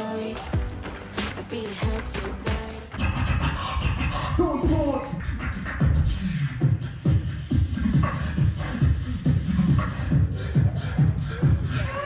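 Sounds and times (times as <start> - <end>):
beatboxing bass-drum hits: 0.4 - 12.0.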